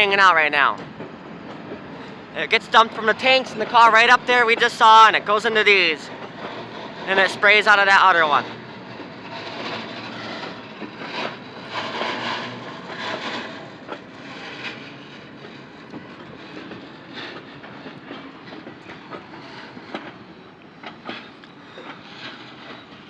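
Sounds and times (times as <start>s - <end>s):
train rumble: 0.0s - 23.0s
train wheels clicking over rail joints: 0.0s - 23.0s.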